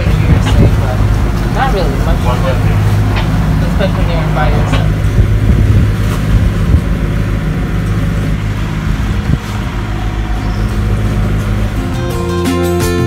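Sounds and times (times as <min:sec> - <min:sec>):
wind and water rushing: 0:00.0 - 0:12.1
boat engine droning: 0:00.0 - 0:13.0.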